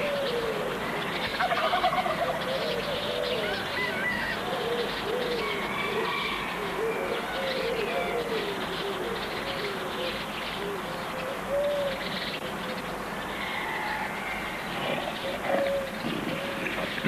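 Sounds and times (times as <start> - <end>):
low bird calls: 0.0 - 17.0.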